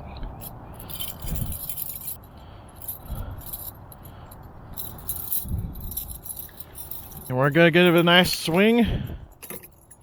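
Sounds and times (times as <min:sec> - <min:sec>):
small metal gear clinking: 0:00.4 - 0:10.0.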